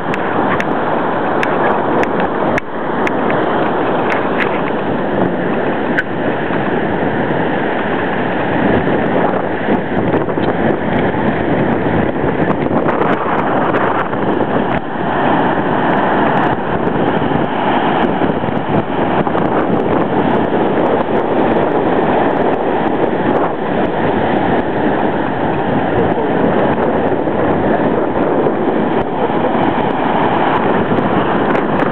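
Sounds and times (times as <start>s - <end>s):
ocean surf breaking: 0.0s - 31.9s
wind buffeting microphone: 0.0s - 31.9s.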